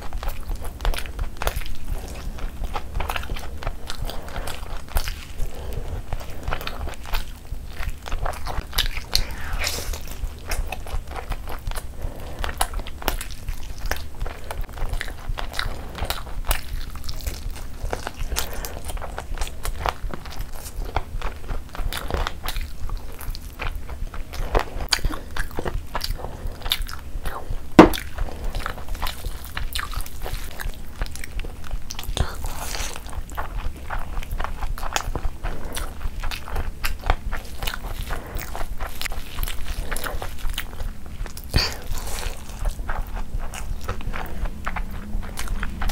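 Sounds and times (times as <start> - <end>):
chewing food: 0.0 - 45.9.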